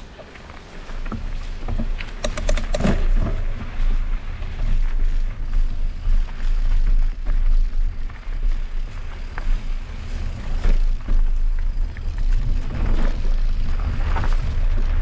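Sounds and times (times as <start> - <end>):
bike clicks and rattles: 0.0 - 15.0
wind rumbling on microphone: 0.0 - 15.0.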